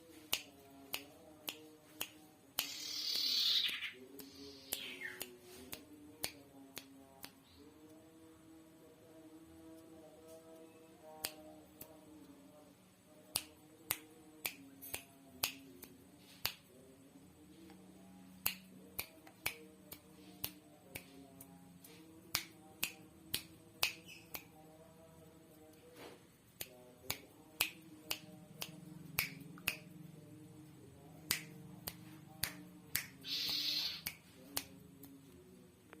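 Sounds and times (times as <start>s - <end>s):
faint steady hum: 3.9s - 36.0s.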